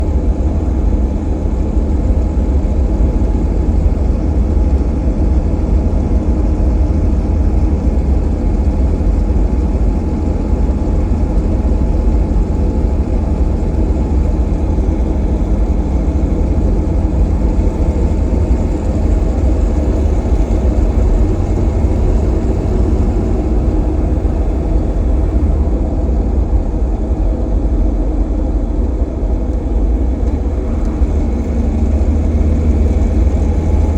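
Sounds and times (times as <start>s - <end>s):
vehicle drivetrain rumbling: 0.0s - 33.9s.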